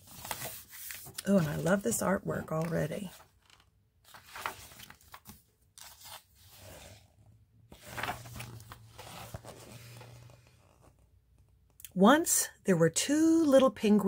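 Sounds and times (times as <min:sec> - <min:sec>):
book pages rustling: 0:00.0 - 0:11.6.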